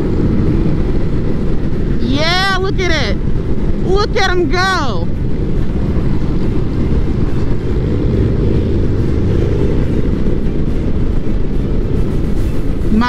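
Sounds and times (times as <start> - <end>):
motorcycle low rumble: 0.0 - 13.0
wind rushing past microphone: 0.0 - 13.0.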